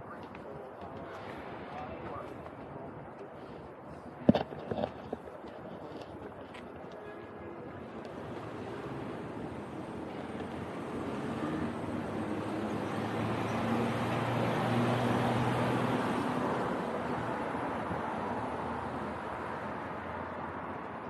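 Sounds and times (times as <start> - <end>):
cars passing: 0.0 - 5.2, 5.9 - 21.0.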